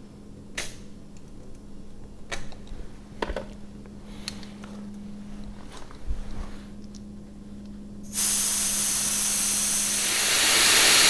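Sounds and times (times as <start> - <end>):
faint low hum: 0.0 - 10.1.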